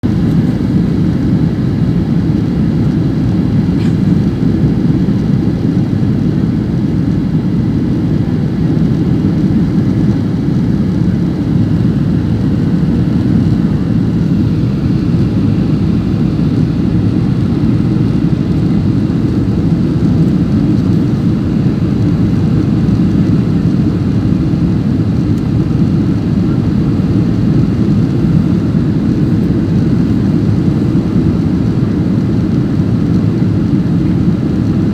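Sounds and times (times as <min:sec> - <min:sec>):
aircraft cabin engine rumble: 0:00.0 - 0:34.9.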